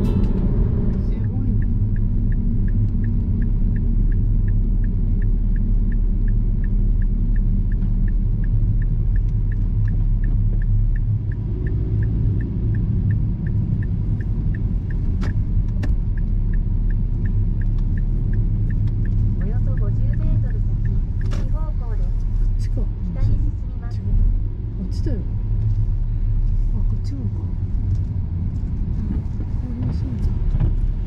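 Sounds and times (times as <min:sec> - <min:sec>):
road and engine rumble in car: 0:00.0 - 0:31.0
faint regular ticking: 0:00.1 - 0:31.0.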